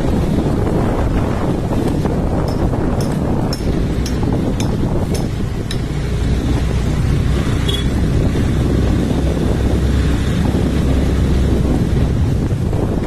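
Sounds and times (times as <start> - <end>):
road noise: 0.0 - 13.0
vehicle engine rumble: 0.0 - 13.0
wind buffeting microphone: 0.0 - 13.0.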